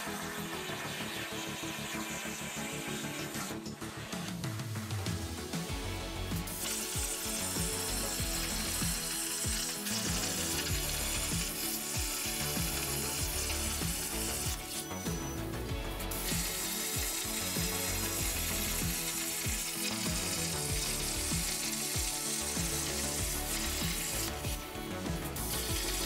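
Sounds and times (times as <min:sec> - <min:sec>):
music with steady beat: 0:00.0 - 0:26.0
plasma torch hissing: 0:00.0 - 0:26.0.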